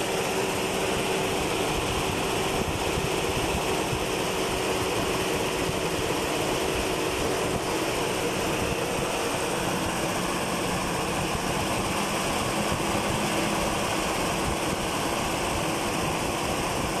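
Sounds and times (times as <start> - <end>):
engine idling up close: 0.0 - 17.0
fan and belt turning: 0.0 - 17.0.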